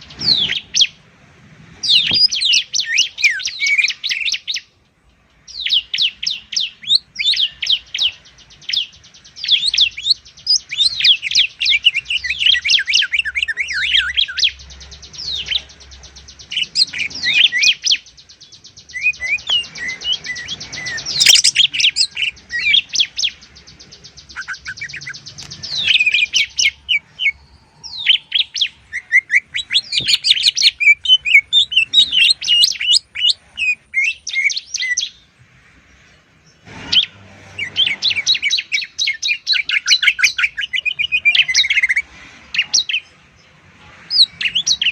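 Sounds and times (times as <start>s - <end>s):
birds chirping and whistling: 0.0s - 1.1s, 1.7s - 44.9s
buzzy bird trill: 5.4s - 35.3s, 36.0s - 43.2s.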